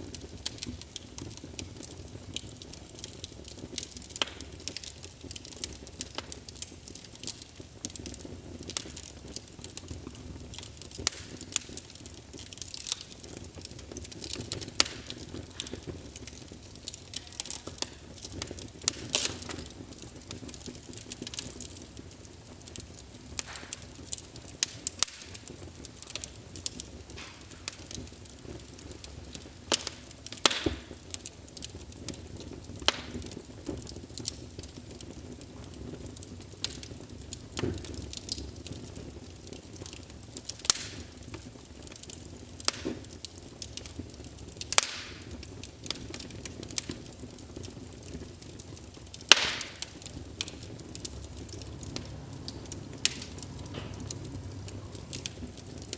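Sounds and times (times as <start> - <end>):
fire popping and snapping: 0.0 - 55.9
wood fire crackling: 0.0 - 55.9.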